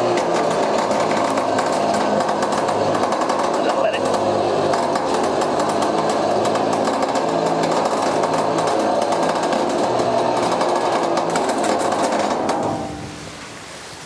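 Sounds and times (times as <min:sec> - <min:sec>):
winch clattering under load: 0:00.0 - 0:13.2.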